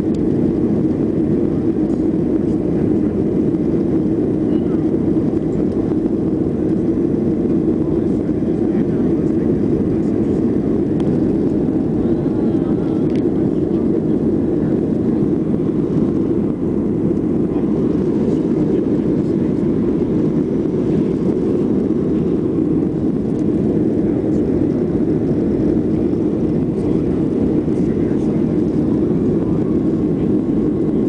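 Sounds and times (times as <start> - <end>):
airliner cabin engine drone: 0.0 - 31.0.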